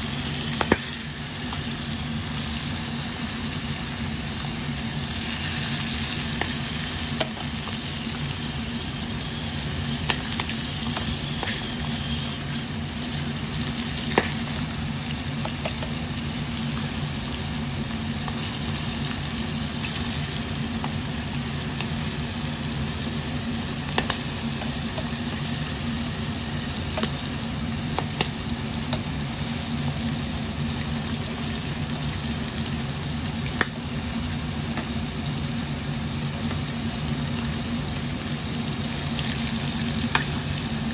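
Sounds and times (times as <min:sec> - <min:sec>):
prawns sizzling in hot oil: 0:00.0 - 0:40.9.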